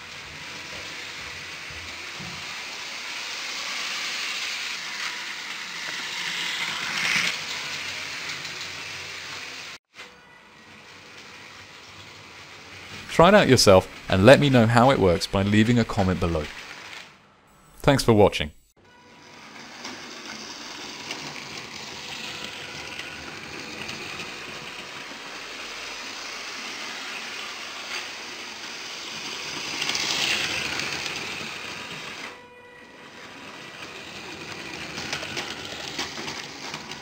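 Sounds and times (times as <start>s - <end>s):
toy train motor whirring: 0.0s - 9.8s, 10.7s - 17.8s, 19.1s - 37.0s.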